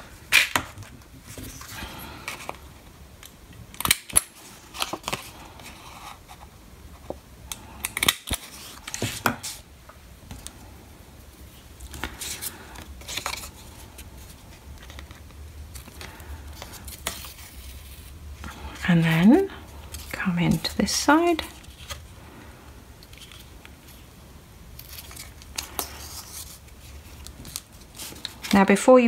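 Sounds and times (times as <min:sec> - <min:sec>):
paper and card rustling: 0:00.2 - 0:02.6, 0:03.7 - 0:09.6, 0:11.4 - 0:22.1, 0:23.0 - 0:24.1, 0:24.8 - 0:28.9.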